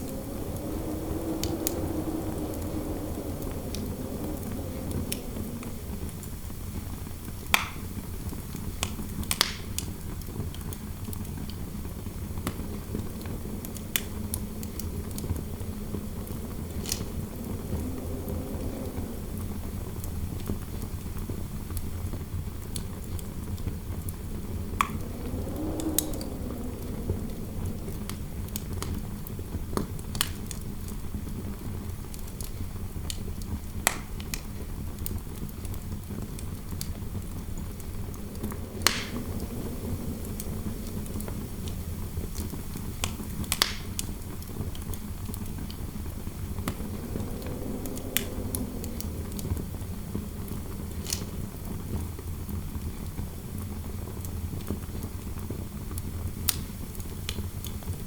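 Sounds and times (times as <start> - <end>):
wood fire crackling and popping: 0.0 - 21.9, 22.6 - 58.0
wind howling softly: 0.0 - 58.0.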